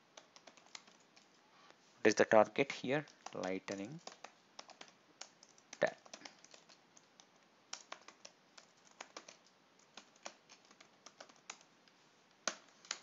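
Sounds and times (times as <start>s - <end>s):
faint typing on computer keyboard: 0.0s - 13.0s.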